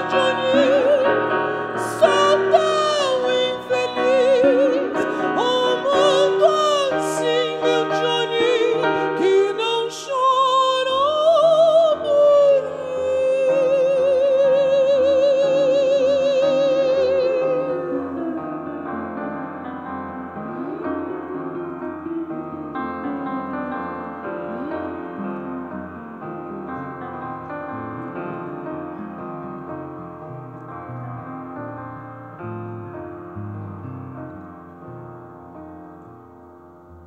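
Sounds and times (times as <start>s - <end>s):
person singing with vibrato: 0.0s - 29.7s
piano: 0.0s - 37.0s.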